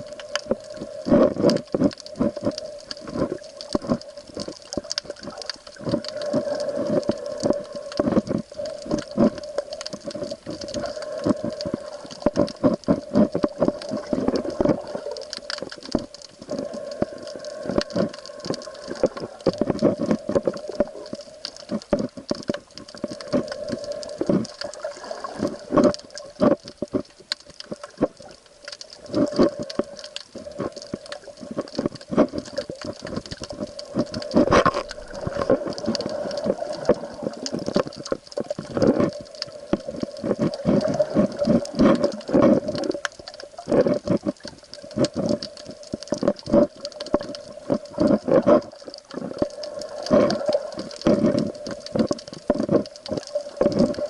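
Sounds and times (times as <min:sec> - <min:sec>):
water sloshing: 0:00.0 - 0:54.0.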